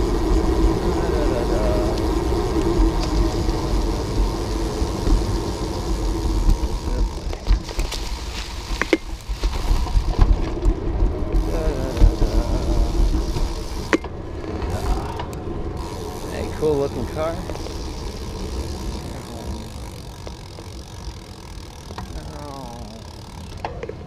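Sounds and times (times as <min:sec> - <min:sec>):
wind buffeting microphone: 0:00.0 - 0:21.7
tyre noise on pavement: 0:00.0 - 0:24.0.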